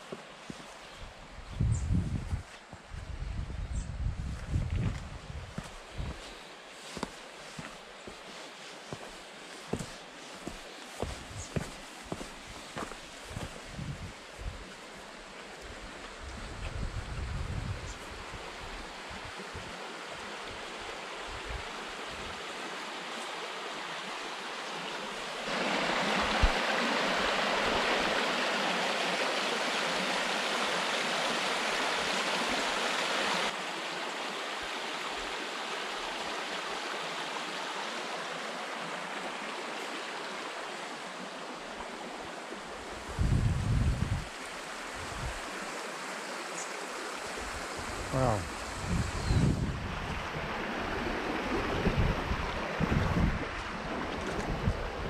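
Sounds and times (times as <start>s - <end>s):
stream rushing over rocks: 5.5s - 16.2s, 18.0s - 55.0s.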